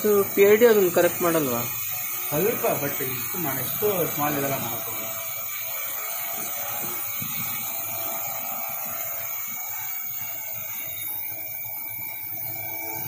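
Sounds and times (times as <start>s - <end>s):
quadcopter propellers buzzing: 0.0s - 13.0s.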